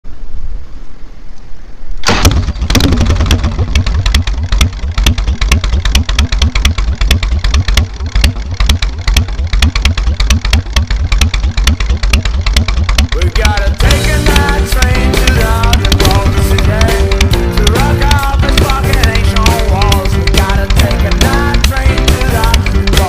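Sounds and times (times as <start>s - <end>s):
motorcycle engine starting and idling: 2.0s - 23.0s.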